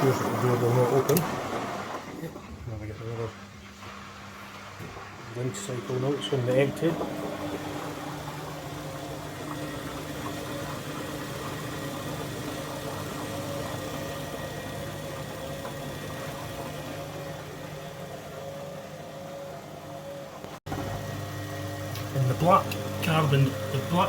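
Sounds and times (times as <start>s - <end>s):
drain pump humming: 0.0s - 24.0s.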